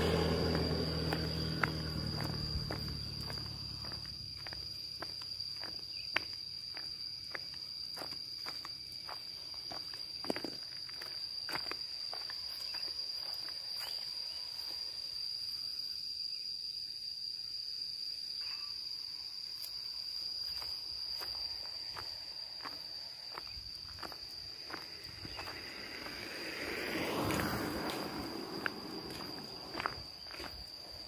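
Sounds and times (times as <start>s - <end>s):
footsteps on concrete and dirt: 0.0s - 14.8s, 19.5s - 31.0s
insects droning: 0.0s - 31.0s.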